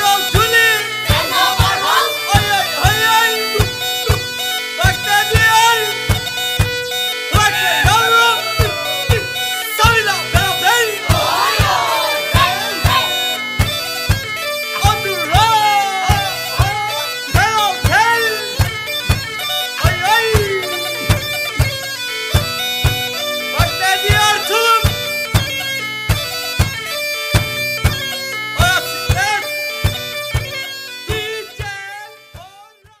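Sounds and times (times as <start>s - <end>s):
bagpipe dance tune: 0.0s - 32.7s
drum beating: 0.0s - 32.7s.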